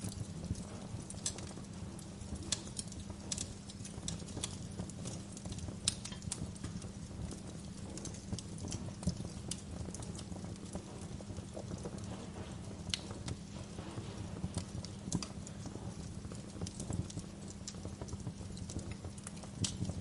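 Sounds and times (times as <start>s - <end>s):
low rumble of burning logs: 0.0s - 20.0s
wood fire crackling: 0.0s - 20.0s.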